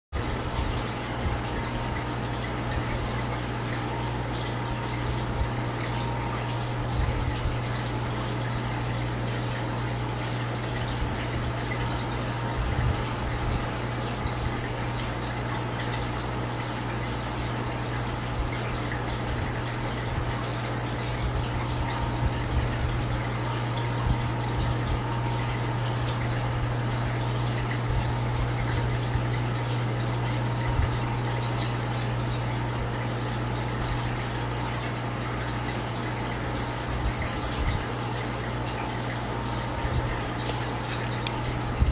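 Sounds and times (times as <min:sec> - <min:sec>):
aquarium pump humming: 0:00.2 - 0:41.9
trickling water: 0:00.2 - 0:41.9.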